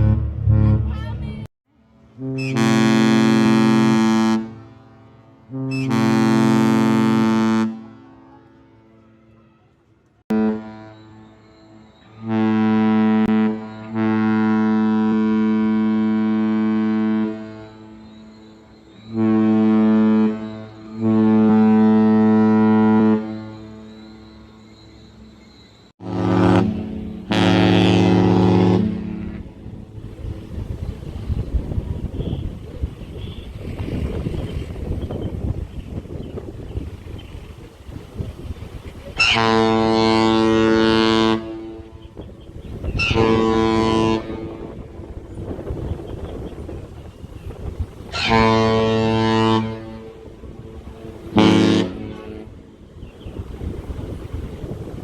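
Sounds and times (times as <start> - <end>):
deep ship horn blasts: 0.0 - 24.7, 26.0 - 55.0.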